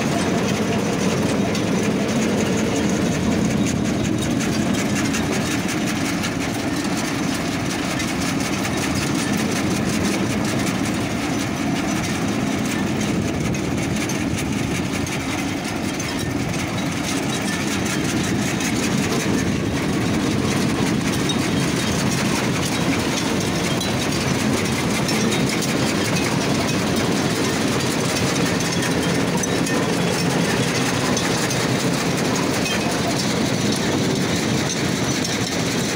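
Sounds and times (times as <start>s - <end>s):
implement rattling and clattering: 0.0s - 35.9s
tractor engine running: 0.0s - 35.9s.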